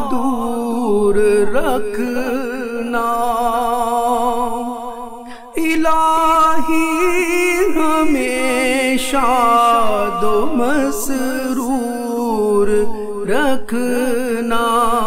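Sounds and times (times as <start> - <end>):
man singing long notes: 0.0 - 15.0.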